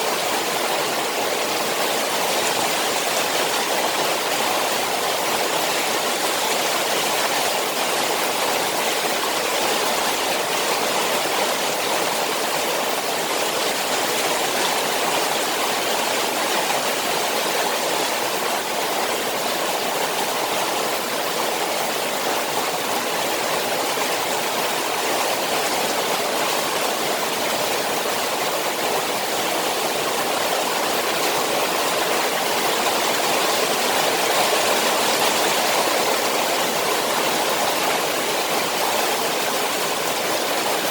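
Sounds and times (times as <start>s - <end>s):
rain falling on a pond: 0.0s - 40.9s.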